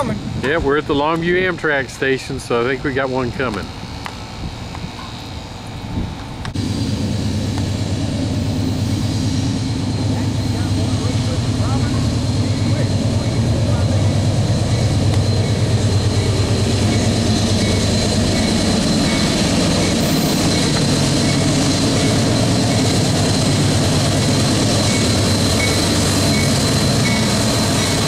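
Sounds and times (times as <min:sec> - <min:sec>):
diesel locomotive engine running: 0:00.0 - 0:28.0
freight train rumbling on rails: 0:00.0 - 0:28.0.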